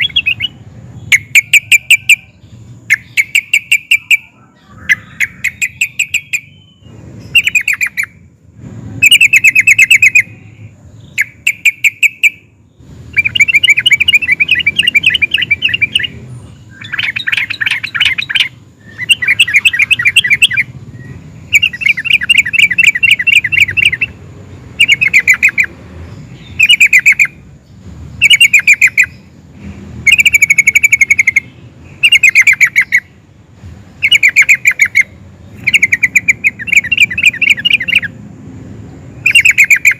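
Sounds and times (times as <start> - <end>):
bird singing rapid phrases: 0.0 - 39.9.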